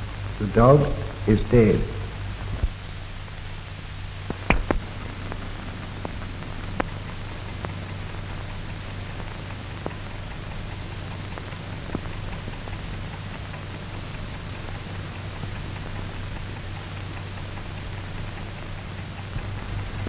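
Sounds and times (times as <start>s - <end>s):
crackles and pops: 0.0s - 20.0s
film soundtrack hiss: 0.0s - 20.0s.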